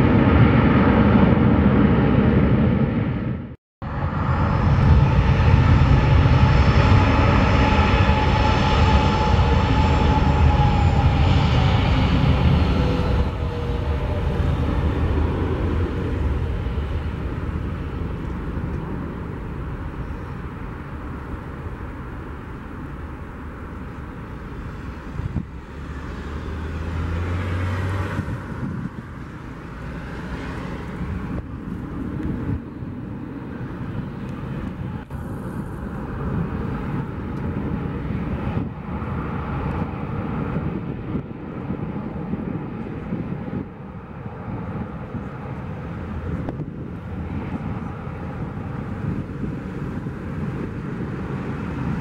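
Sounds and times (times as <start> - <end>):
aircraft engine roar flying past: 0.0 - 52.0.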